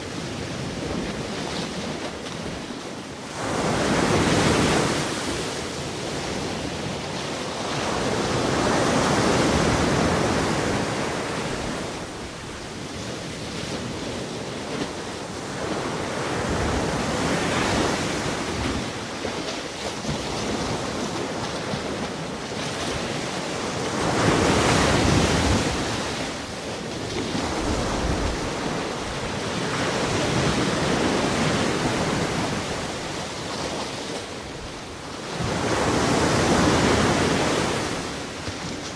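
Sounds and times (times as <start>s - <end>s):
ocean surf breaking on shore: 0.0s - 38.9s.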